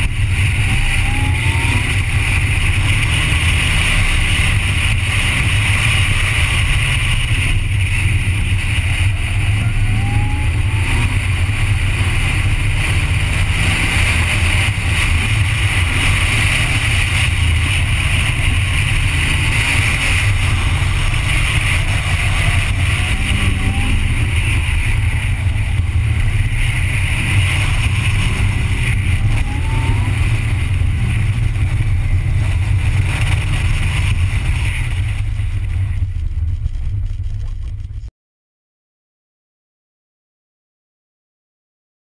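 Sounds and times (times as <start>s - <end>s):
car engine and road noise: 0.0s - 38.1s.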